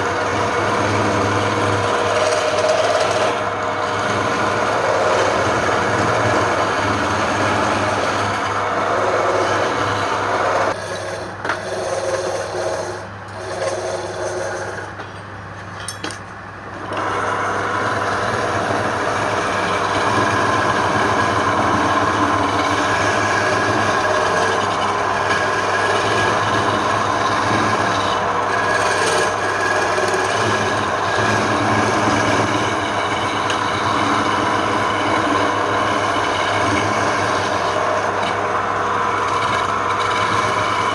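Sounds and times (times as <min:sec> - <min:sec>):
wood being turned on lathe: 0:00.0 - 0:15.2, 0:16.6 - 0:40.9
lathe motor hum: 0:00.0 - 0:15.8, 0:16.4 - 0:40.9.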